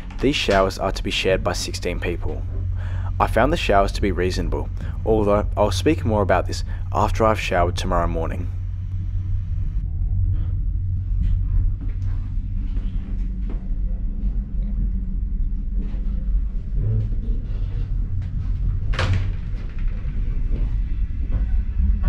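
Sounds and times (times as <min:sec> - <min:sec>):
train rumble inside carriage: 0:00.0 - 0:22.0.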